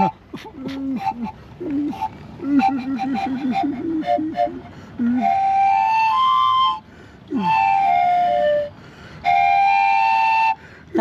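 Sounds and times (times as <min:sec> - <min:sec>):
flute playing held notes: 0:00.0 - 0:11.0.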